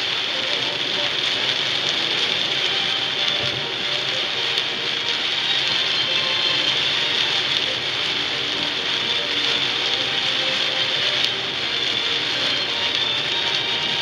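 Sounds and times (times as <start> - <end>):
heavy rain on car roof: 0.0 - 14.0
tyres on wet road: 0.0 - 14.0.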